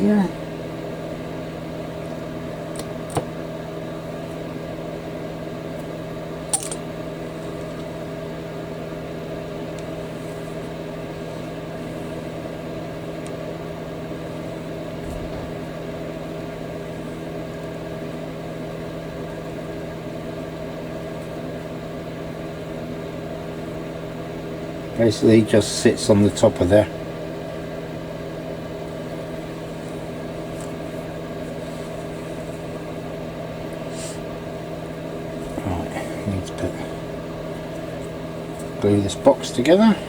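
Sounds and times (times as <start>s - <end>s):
electrical hum: 0.0s - 40.0s.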